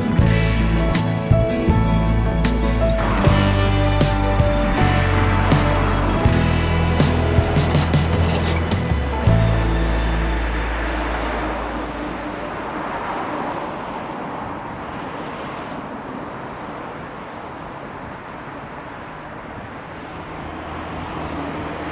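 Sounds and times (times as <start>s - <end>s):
tyre hiss from passing cars: 2.9s - 21.9s.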